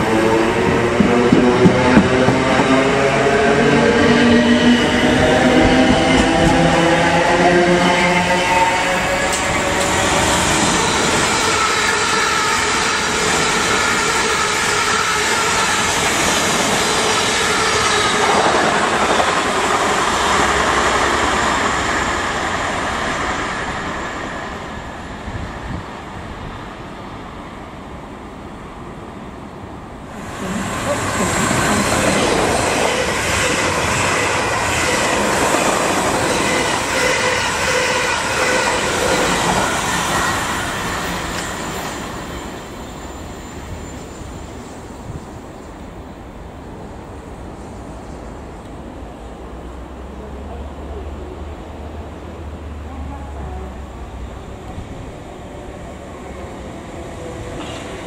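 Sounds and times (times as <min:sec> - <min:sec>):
train wheels rushing on rail: 0:00.0 - 0:58.0.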